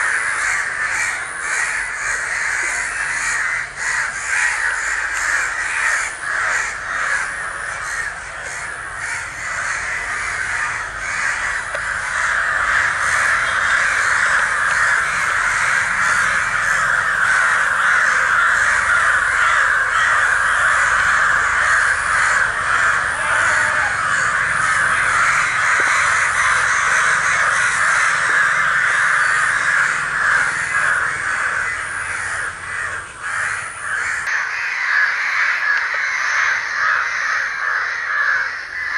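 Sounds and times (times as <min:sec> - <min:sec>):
flock of crows cawing: 0:00.0 - 0:38.9.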